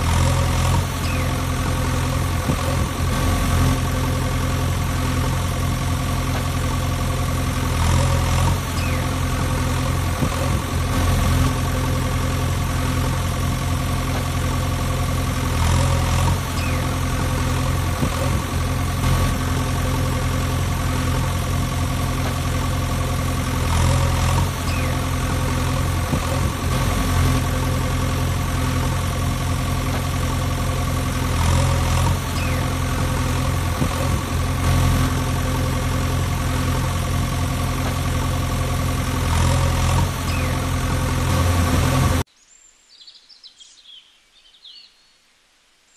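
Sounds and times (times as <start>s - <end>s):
engine idling: 0.0s - 42.3s.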